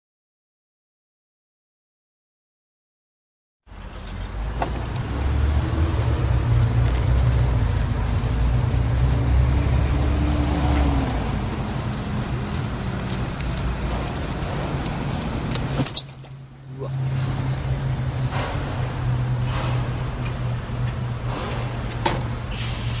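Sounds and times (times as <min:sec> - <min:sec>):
low rumble of road traffic: 0:03.7 - 0:23.0.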